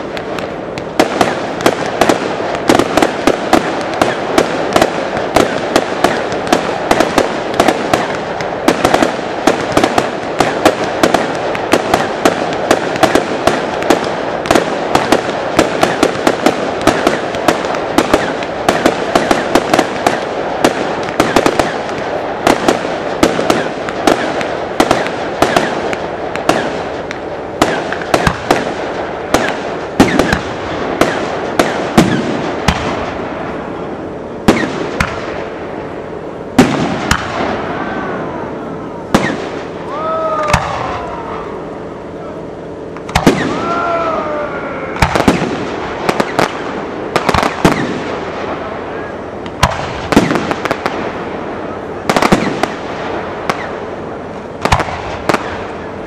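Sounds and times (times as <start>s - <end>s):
fireworks bursts and crackle: 0.0s - 42.2s, 42.8s - 56.0s.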